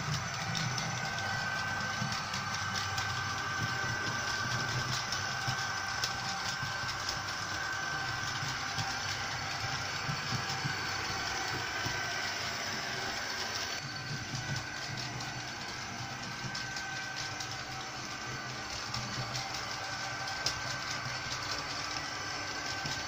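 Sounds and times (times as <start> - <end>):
model train motor whine: 0.0 - 23.0
wheels clicking over rail joints: 0.0 - 23.0.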